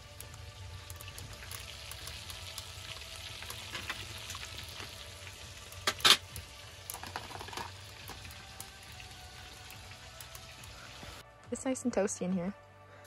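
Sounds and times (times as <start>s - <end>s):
fish frying in oil: 0.0s - 11.2s.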